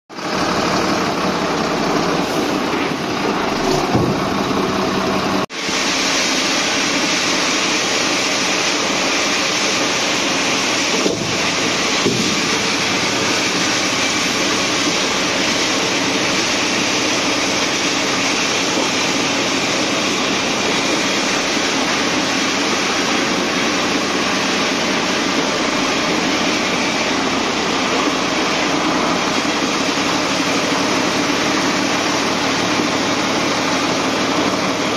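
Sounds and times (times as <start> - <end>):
diesel truck engine idling: 0.1 - 5.5, 6.7 - 34.9.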